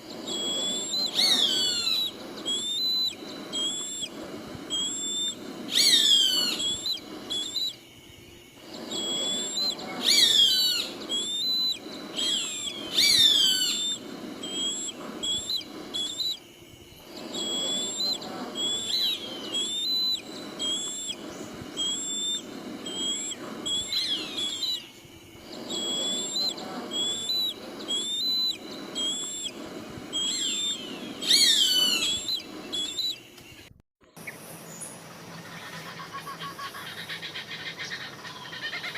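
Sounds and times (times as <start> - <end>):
high whistled bird calls: 0.0 - 7.9, 8.6 - 38.9
steady background noise: 0.0 - 38.9.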